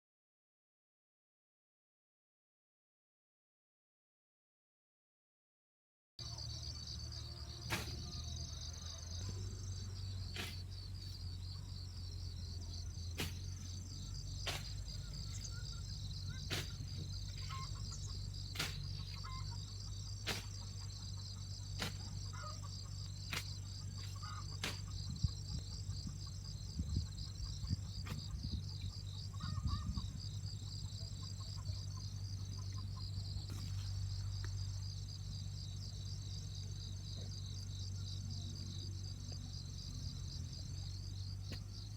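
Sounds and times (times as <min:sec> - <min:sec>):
insects trilling: 0:06.2 - 0:41.9
low steady hum: 0:06.2 - 0:41.9.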